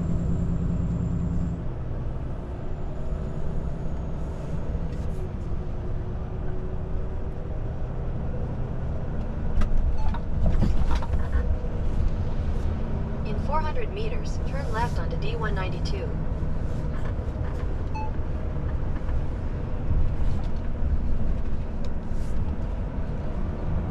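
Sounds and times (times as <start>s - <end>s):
road noise: 0.0s - 23.9s.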